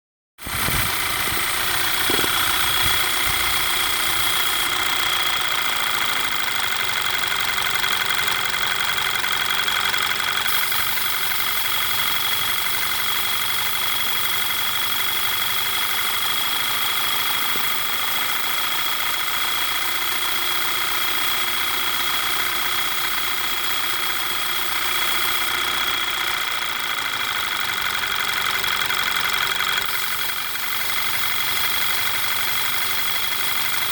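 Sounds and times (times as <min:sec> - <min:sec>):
car engine idling: 0:00.4 - 0:33.9.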